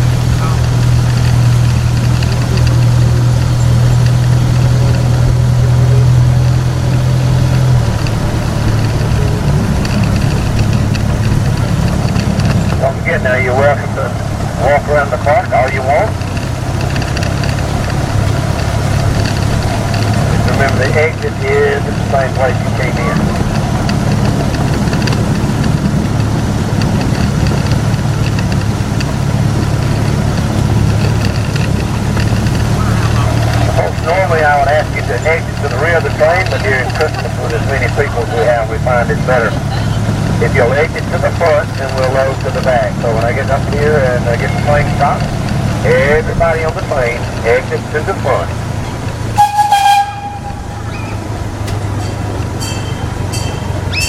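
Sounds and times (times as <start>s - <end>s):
train engine low hum: 0.0s - 54.0s.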